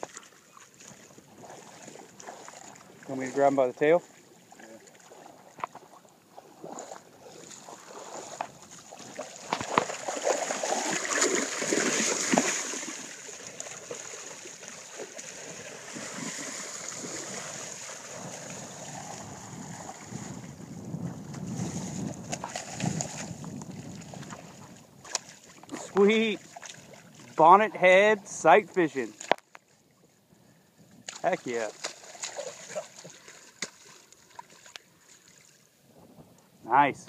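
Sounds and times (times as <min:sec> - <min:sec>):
shallow water splashing: 0:00.0 - 0:30.2, 0:30.9 - 0:35.8.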